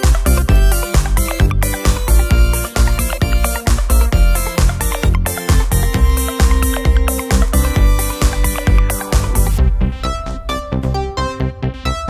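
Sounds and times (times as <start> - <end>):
kick drum beat: 0.0 - 9.9.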